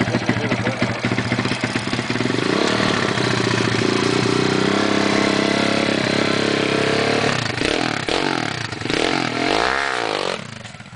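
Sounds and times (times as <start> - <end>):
motorbike engine revving high: 0.0 - 10.9.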